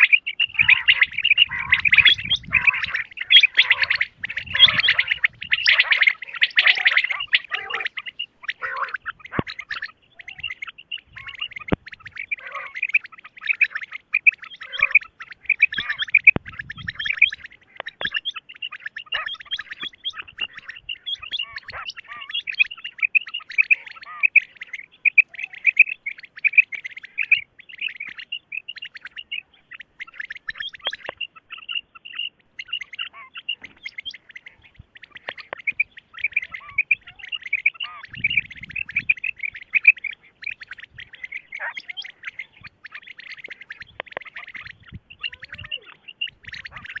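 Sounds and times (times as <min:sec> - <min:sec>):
birds chirping chorus: 0:00.0 - 0:47.0.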